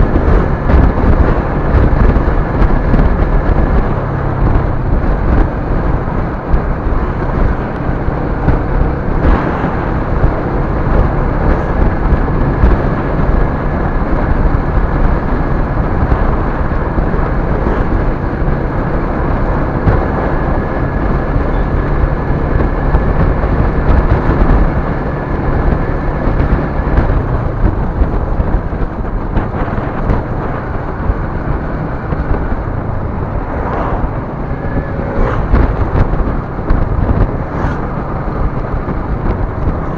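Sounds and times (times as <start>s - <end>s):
engine hum: 0.0s - 39.9s
wind and road noise: 0.0s - 39.9s.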